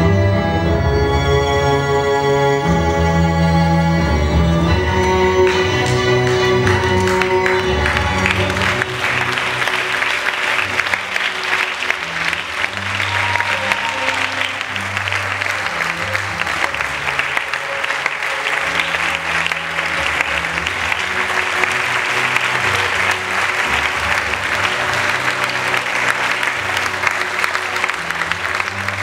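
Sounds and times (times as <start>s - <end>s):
audience applause: 5.0s - 29.0s.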